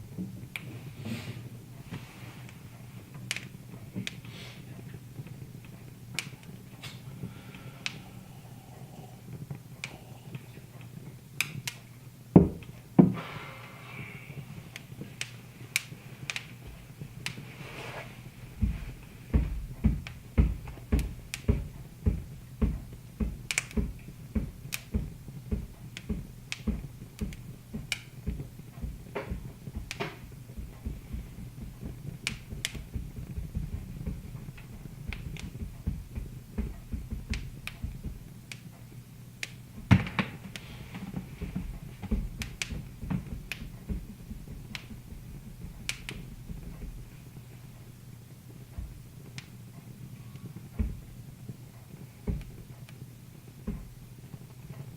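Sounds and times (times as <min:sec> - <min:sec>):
steady low hum: 0:00.0 - 0:54.9
wood fire crackling and popping: 0:00.0 - 0:54.9.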